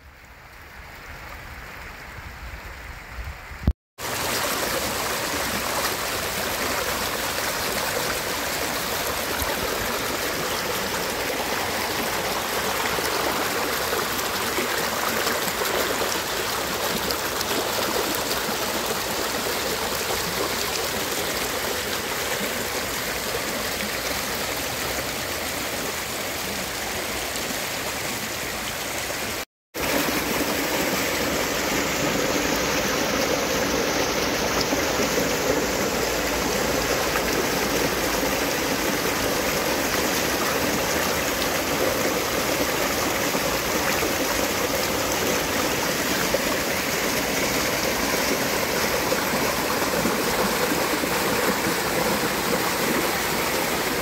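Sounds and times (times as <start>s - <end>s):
creek water rushing over rocks: 4.0s - 54.0s.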